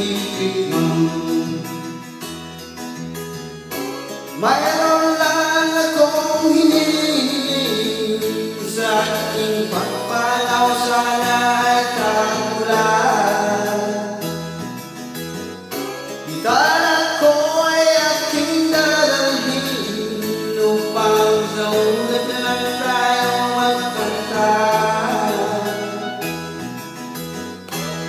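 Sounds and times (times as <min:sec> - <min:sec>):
man singing into a microphone: 0:00.0 - 0:02.3, 0:04.3 - 0:14.8, 0:15.7 - 0:26.9
instrumental backing music: 0:00.0 - 0:28.0.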